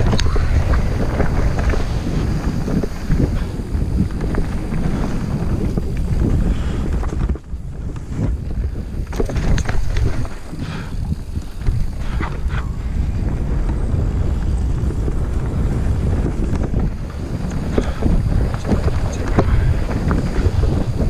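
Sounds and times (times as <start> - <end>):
bike rattling over rocks: 0.0 - 21.0
wind buffeting microphone: 0.0 - 21.0.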